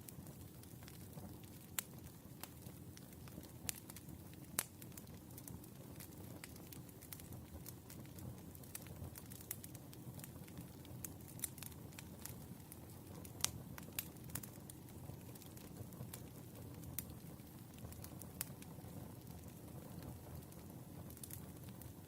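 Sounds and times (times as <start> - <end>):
firewood burning: 0.0 - 22.0.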